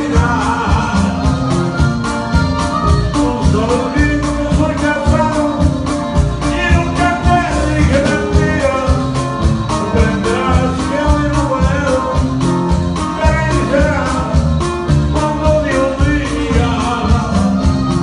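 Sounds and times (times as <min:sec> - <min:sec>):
man singing into a microphone: 0:00.0 - 0:01.8, 0:02.8 - 0:18.0
drums keeping a steady beat: 0:00.0 - 0:18.0
guitar and bass: 0:00.0 - 0:18.0.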